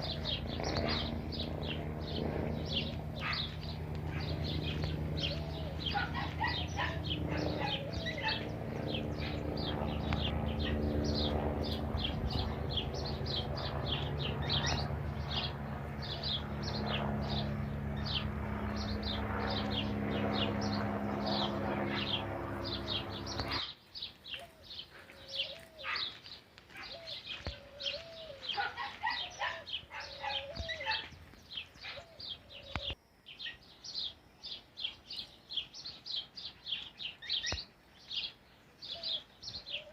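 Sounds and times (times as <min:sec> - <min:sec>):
lower curved bird calls: 0:00.0 - 0:39.9
small birds chirping and singing: 0:00.0 - 0:39.9
steady low hum: 0:00.0 - 0:39.9.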